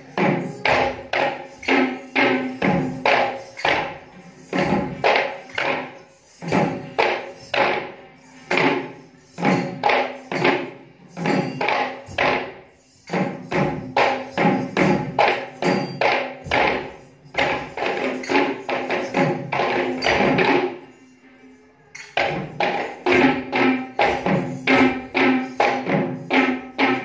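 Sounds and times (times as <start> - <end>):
hand drums playing rhythmic phrases: 0.0 - 20.9, 21.9 - 27.0.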